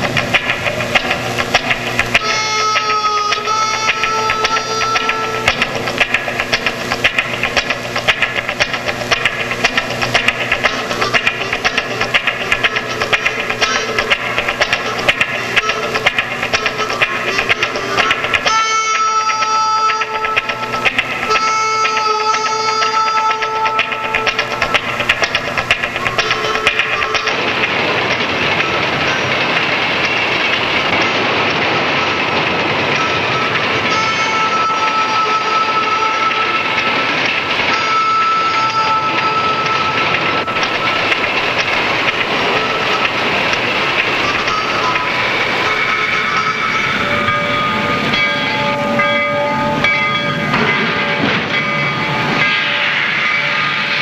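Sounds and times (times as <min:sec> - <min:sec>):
freight train wheels on rails: 0:00.0 - 0:54.0
high whining tones: 0:00.0 - 0:54.0.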